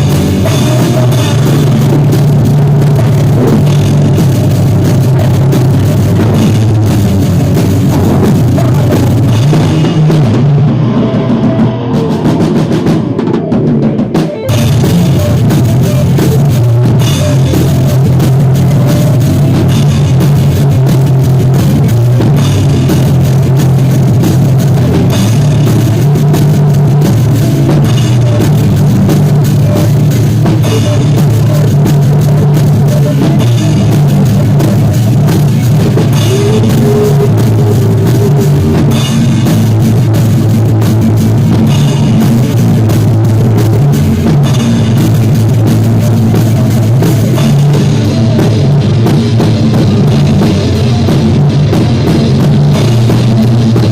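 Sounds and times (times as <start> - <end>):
drum kit: 0.0 - 53.9
rock band playing: 0.0 - 53.9.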